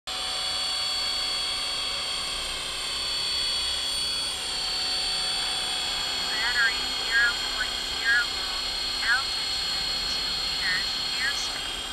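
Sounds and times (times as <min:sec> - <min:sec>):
rc helicopter motor whine: 0:00.1 - 0:11.9.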